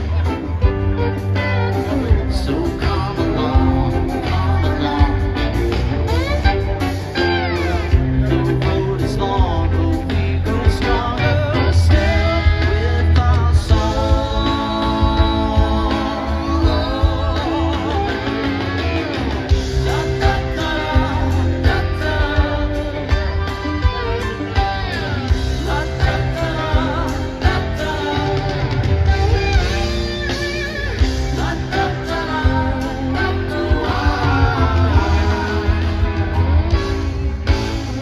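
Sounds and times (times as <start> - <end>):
rock band playing: 0.0 - 38.0.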